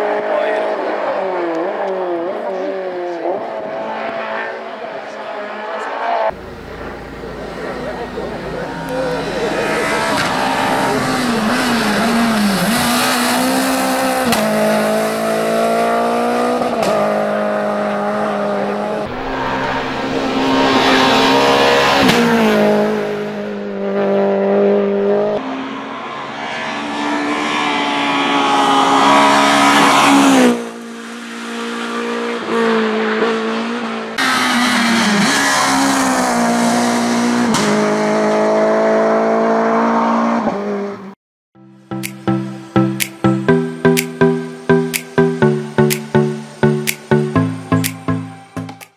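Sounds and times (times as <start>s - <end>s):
rally car engine at full throttle: 0.0s - 41.1s.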